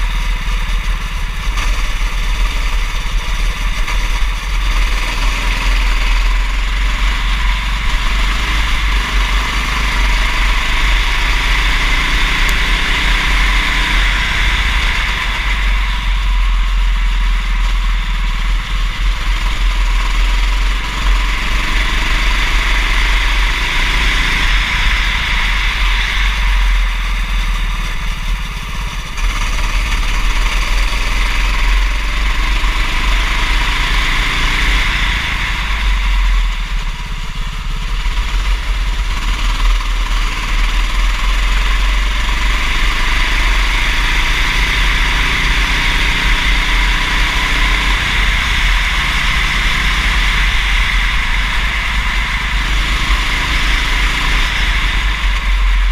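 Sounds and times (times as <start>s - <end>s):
kart engine running: 0.0s - 55.9s.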